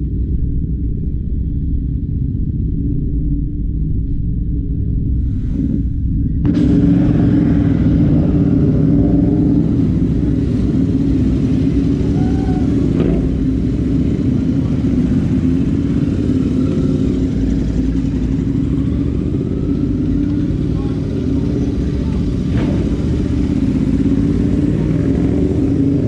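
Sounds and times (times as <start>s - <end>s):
motorcycles running at low revs: 0.0s - 26.0s.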